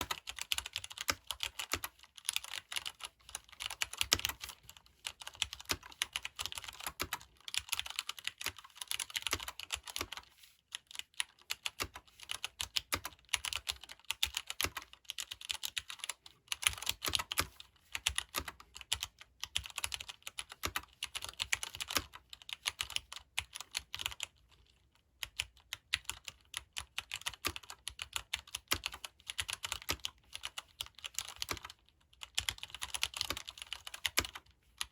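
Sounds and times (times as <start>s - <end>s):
fast mechanical keyboard typing: 0.0s - 34.9s.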